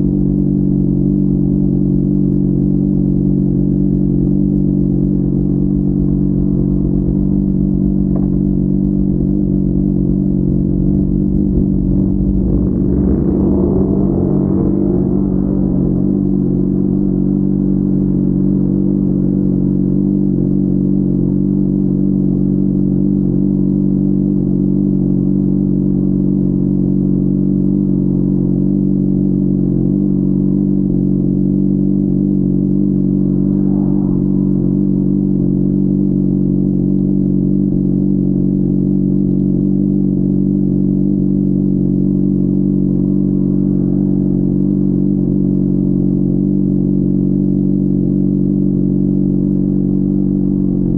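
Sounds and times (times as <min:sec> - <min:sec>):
muffled motorcycle engine running: 0:00.0 - 0:50.9.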